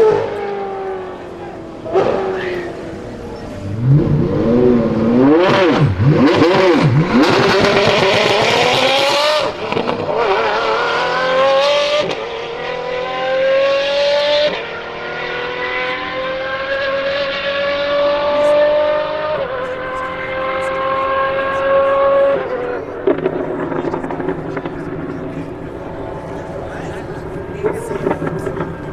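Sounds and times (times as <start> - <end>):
car accelerating with upshifts: 0.0 - 28.9
sports car engine revving: 0.0 - 28.9.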